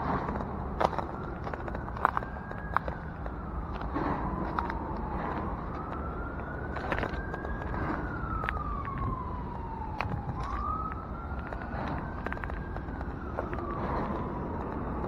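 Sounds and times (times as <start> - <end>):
emergency siren wailing: 0.0 - 15.0
traffic rumble: 0.0 - 15.0.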